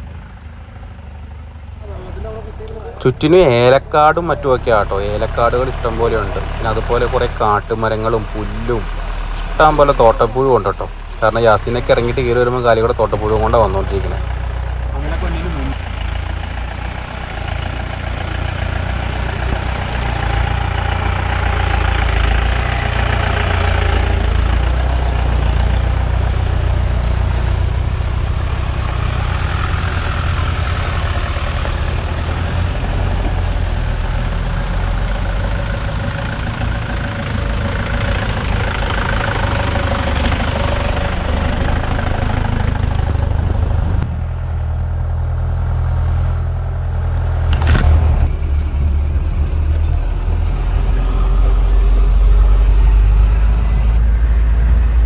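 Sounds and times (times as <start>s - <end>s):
off-road vehicle engines running: 0.0s - 55.0s
road and body noise: 0.0s - 55.0s.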